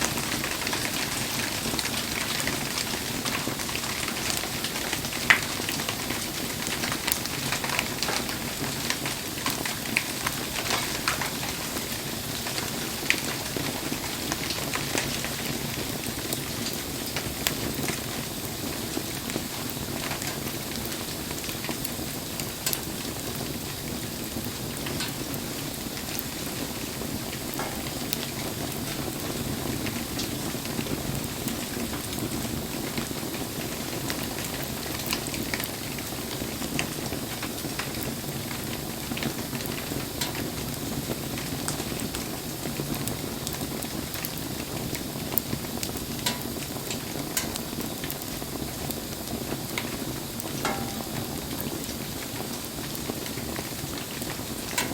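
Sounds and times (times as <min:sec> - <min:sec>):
campfire crackling and popping: 0:00.0 - 0:54.9
rain hissing and sizzling: 0:00.0 - 0:54.9.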